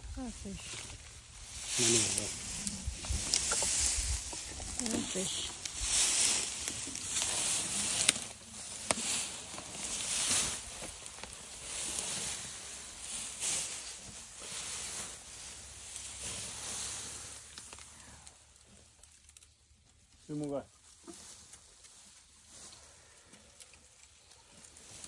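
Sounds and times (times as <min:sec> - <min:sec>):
grass rustling and tearing: 0:00.0 - 0:25.0.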